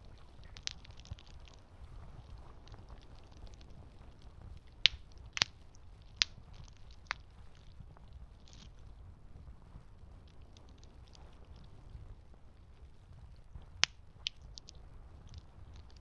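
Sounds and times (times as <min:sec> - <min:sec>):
campfire crackling and popping: 0:00.0 - 0:09.0, 0:09.9 - 0:12.9, 0:13.5 - 0:16.0
low steady rumble: 0:00.0 - 0:16.0.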